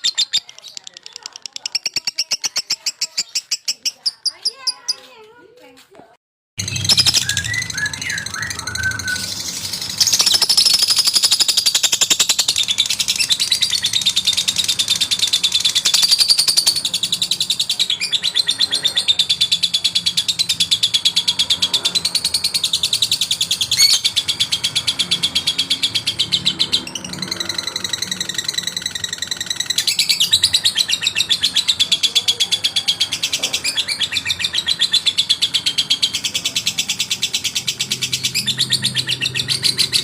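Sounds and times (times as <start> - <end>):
lovebird chattering trill: 0.0 - 5.1, 6.6 - 40.0.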